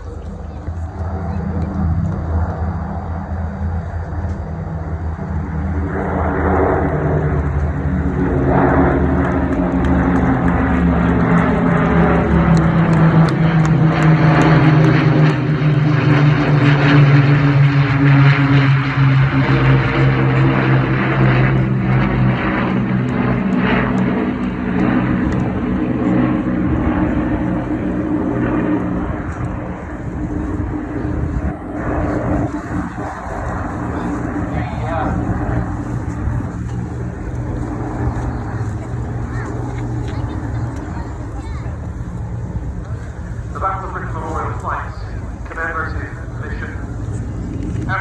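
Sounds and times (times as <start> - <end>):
propeller aircraft engines droning: 0.0 - 48.0.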